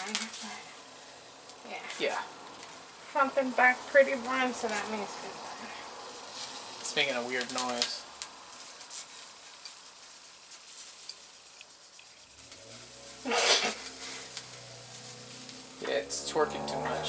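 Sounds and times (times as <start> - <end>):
vegetables sizzling: 0.0 - 17.0.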